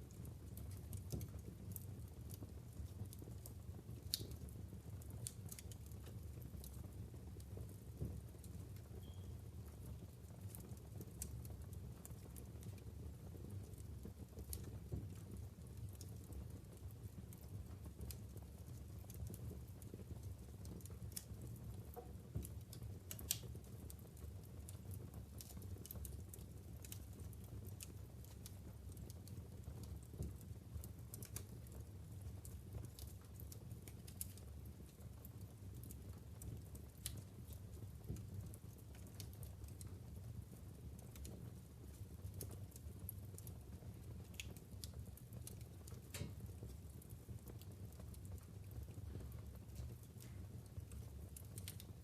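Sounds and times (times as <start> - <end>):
low rumble of flames: 0.0 - 52.0
logs crackling and popping: 0.1 - 52.0.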